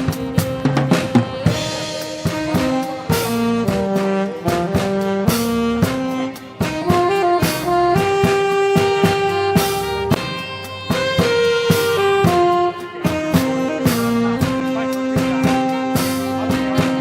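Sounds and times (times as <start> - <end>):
brass or saxophone lead: 0.0 - 17.0
drum kit beat: 0.0 - 17.0.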